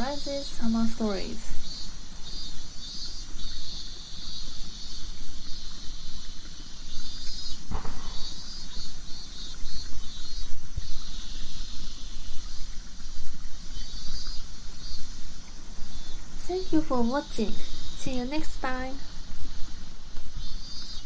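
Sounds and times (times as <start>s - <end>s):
cicadas singing: 0.0s - 21.0s.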